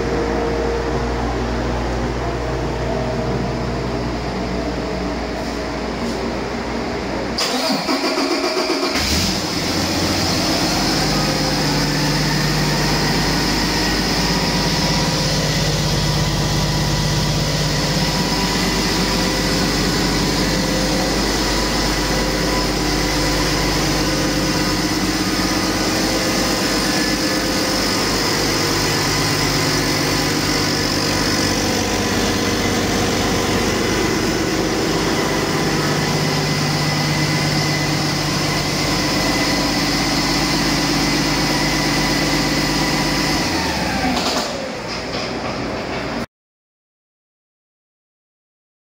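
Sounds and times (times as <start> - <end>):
faint engine whine: 0.0 - 46.2
diesel engine cranking and idling: 0.0 - 46.3.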